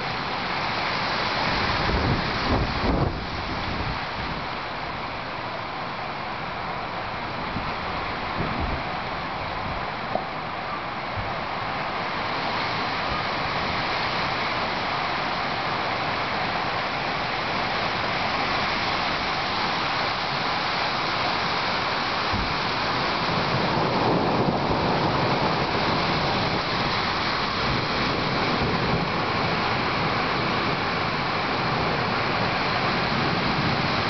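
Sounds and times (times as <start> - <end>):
rain: 0.0 - 34.0
wind gusting through trees: 0.0 - 34.0.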